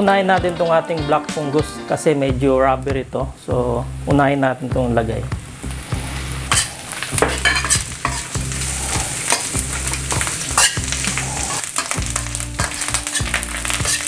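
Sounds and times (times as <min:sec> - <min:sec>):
mushrooms sizzling in a pan: 0:02.0 - 0:14.0.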